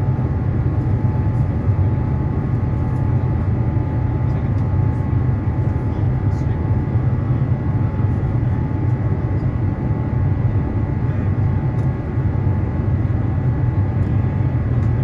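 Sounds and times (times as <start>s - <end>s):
faint engine whine: 0.0s - 15.0s
jet engine rumble in cabin: 0.0s - 15.0s.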